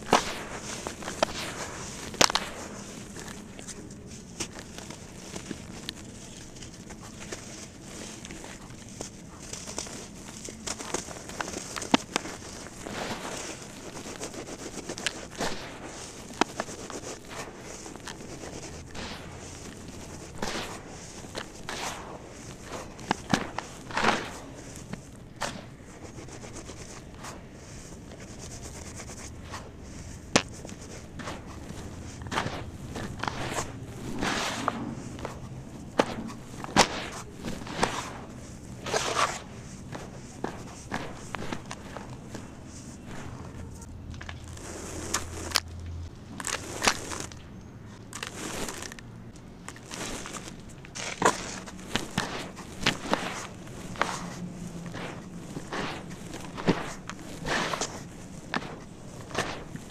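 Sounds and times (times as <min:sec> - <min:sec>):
cement crunching by hand: 0:00.0 - 0:59.9.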